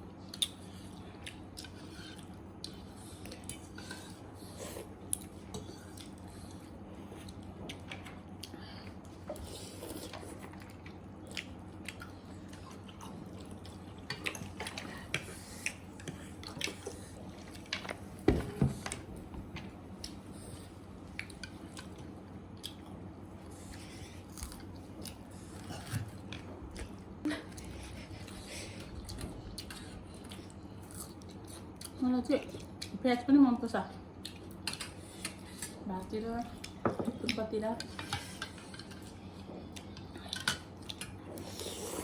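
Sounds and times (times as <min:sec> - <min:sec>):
person chewing food: 0:00.2 - 0:18.0, 0:19.9 - 0:32.0, 0:34.2 - 0:35.8, 0:38.1 - 0:42.0.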